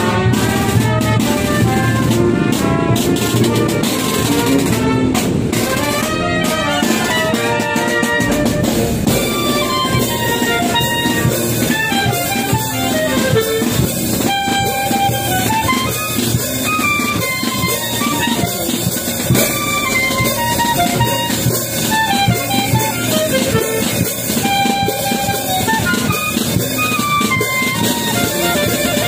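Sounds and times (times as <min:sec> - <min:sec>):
melody over steady beat: 0:00.2 - 0:29.0.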